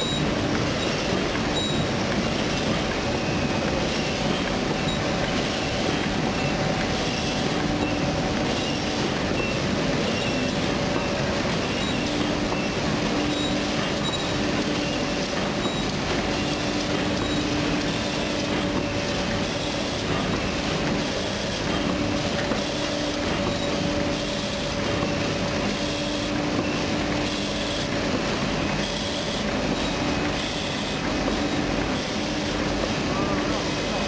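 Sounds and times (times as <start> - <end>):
machine low hum: 0.0 - 34.0.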